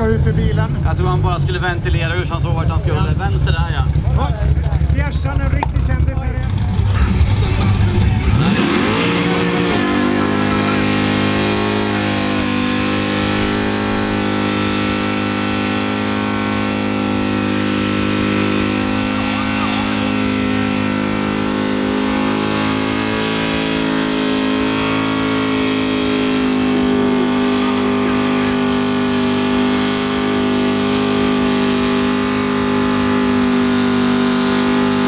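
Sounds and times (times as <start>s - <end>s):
car engine revving high: 0.0s - 35.0s.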